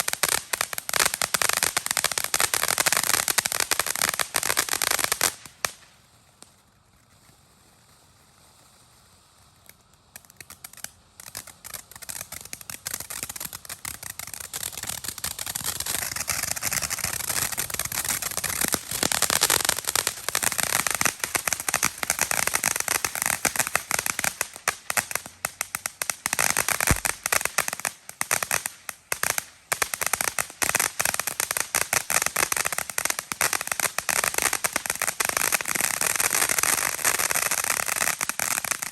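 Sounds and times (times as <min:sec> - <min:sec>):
firework fountain crackling: 0:00.0 - 0:38.9.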